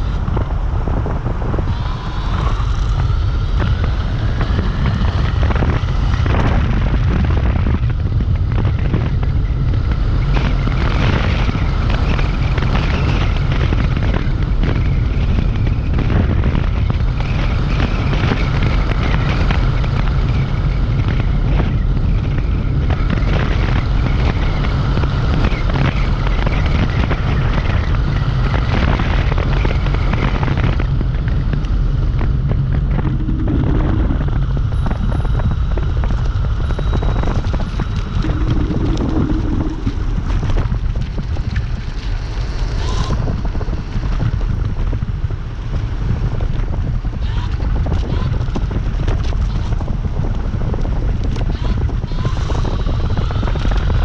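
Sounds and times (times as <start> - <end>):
tyre noise on wet road: 0.0 - 51.5
wind rumble on microphone: 0.0 - 54.0.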